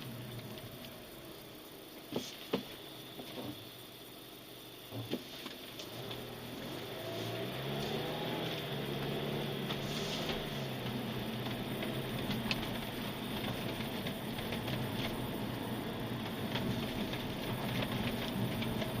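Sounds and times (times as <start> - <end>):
car running hum: 0.0 - 19.0.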